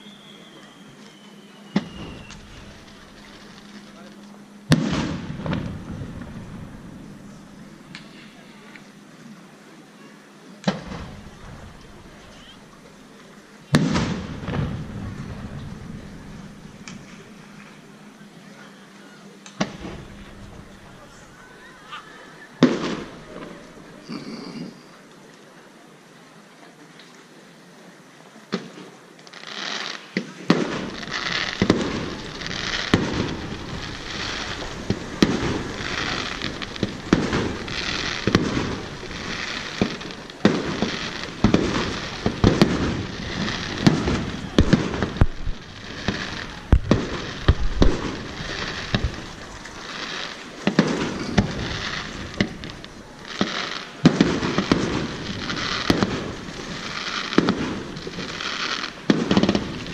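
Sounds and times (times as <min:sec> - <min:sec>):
fireworks booming: 0:00.0 - 0:08.7, 0:10.6 - 0:18.9, 0:19.5 - 0:24.9, 0:29.4 - 0:59.9
fireworks crackling: 0:00.0 - 0:09.7, 0:10.4 - 0:25.1, 0:28.5 - 0:59.9.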